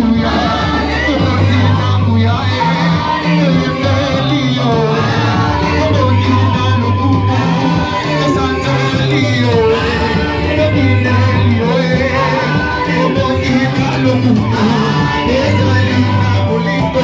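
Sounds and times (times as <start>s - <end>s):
steady bass line: 0.0s - 17.0s
worship music with singing: 0.0s - 17.0s.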